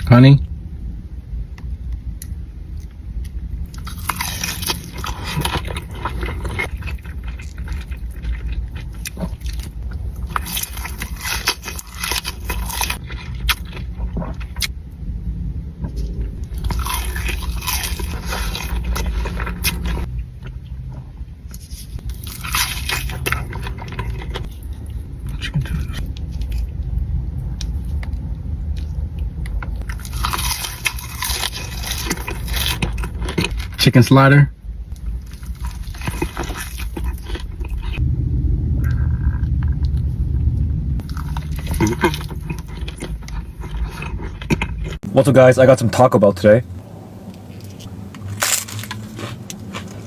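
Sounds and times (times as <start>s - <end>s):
low rumble: 0.0s - 33.8s, 34.5s - 45.2s, 46.6s - 50.0s
crunching and chewing fried chicken: 2.7s - 14.8s, 15.8s - 34.3s, 34.9s - 38.0s, 41.0s - 45.1s, 47.4s - 50.0s.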